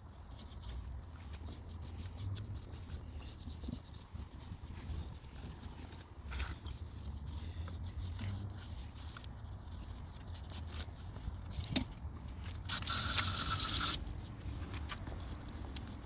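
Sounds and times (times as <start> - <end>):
parts being handled and scraped: 0.0 - 16.0.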